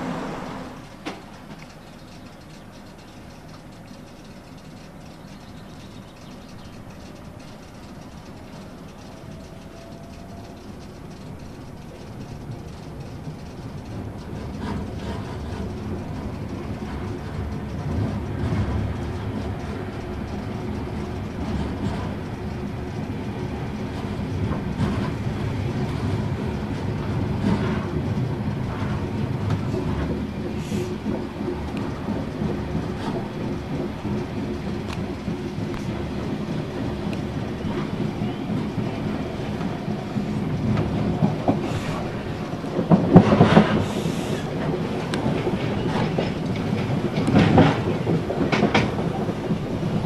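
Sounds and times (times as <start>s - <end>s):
train rumbling: 0.0s - 50.0s
wheels clicking over rails: 0.0s - 50.0s.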